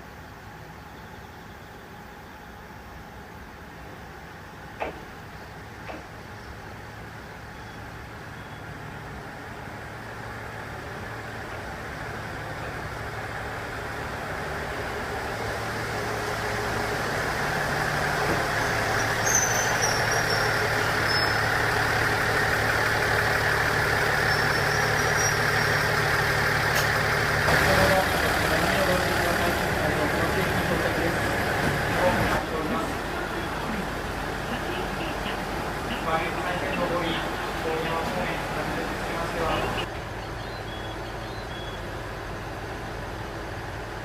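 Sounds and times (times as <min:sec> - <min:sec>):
diesel railcar engine idling: 0:00.0 - 0:44.0.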